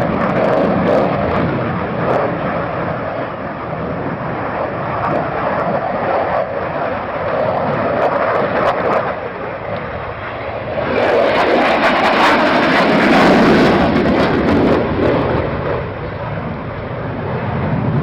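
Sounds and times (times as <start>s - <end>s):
aircraft engine noise: 0.0s - 18.0s.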